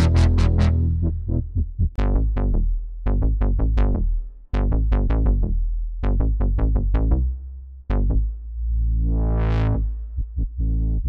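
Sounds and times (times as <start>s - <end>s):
synth bass notes: 0.0s - 11.0s.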